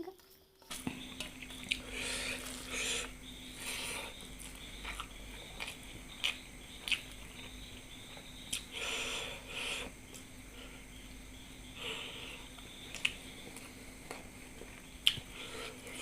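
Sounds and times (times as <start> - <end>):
person chewing food: 0.7 - 16.0.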